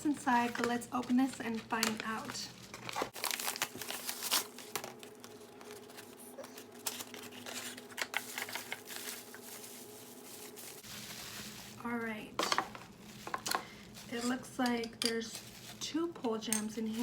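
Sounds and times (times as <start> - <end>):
wrapping crinkling and rustling: 0.0 - 17.0.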